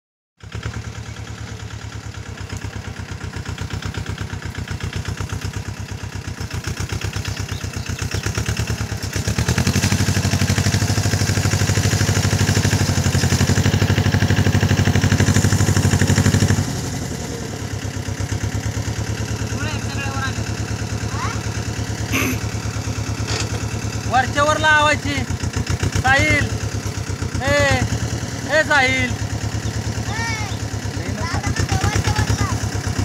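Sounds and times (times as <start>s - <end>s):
tractor diesel engine running: 0.4s - 33.0s.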